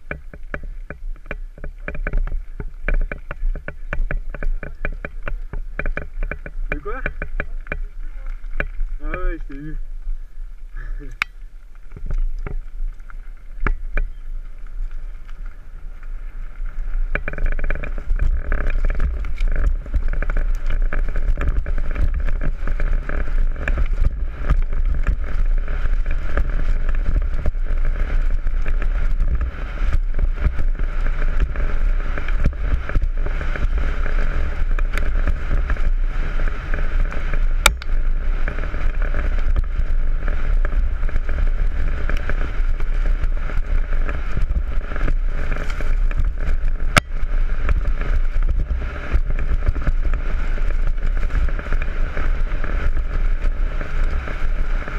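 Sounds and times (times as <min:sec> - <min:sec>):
bike clattering over bumps: 0:00.0 - 0:10.0, 0:10.8 - 0:54.9
wind rumble on microphone: 0:00.0 - 0:54.9.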